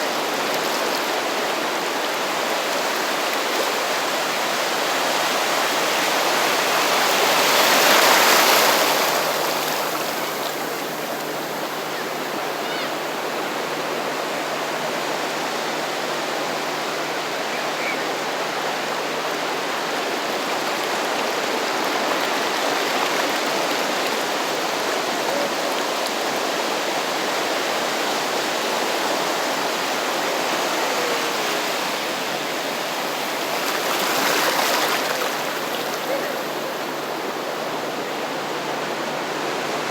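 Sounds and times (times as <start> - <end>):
small waves breaking on sand: 0.0 - 39.9.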